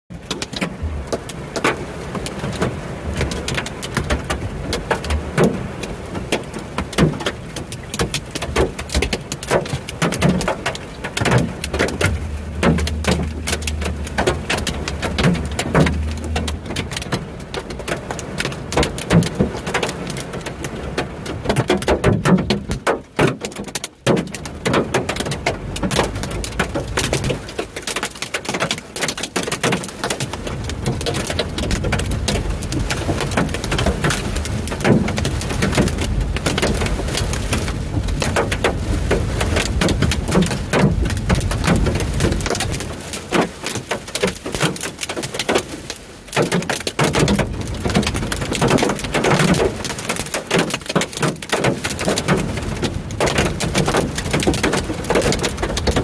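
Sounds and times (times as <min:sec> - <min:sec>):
hailstones hitting hard surfaces: 0:00.2 - 0:56.0.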